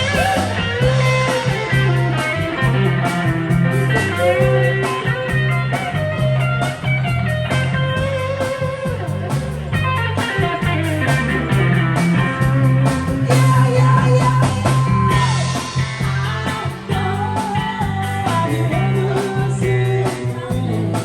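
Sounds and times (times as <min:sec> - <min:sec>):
bass line: 0:00.0 - 0:21.0
rock music with guitar: 0:00.0 - 0:21.0
steady drum beat: 0:00.0 - 0:21.0.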